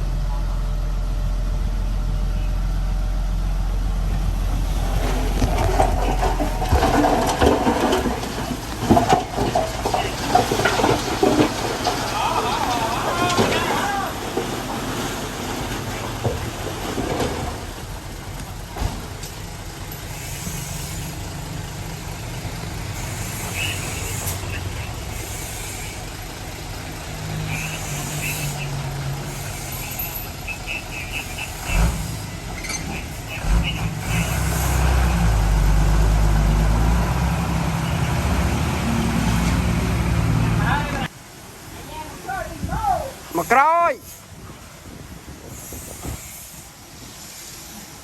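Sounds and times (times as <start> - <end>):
heavy diesel engine running: 0.0 - 41.6.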